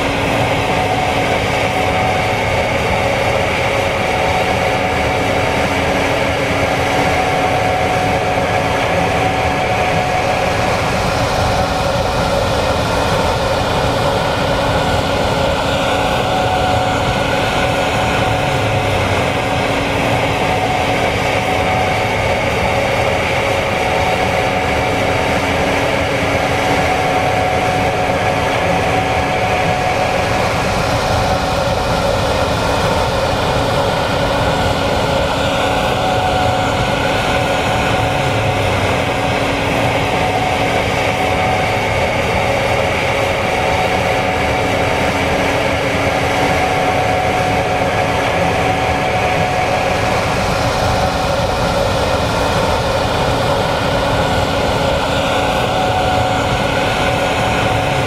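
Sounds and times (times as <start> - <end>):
combine harvester engine drone: 0.0 - 58.0
high whine: 0.0 - 58.0.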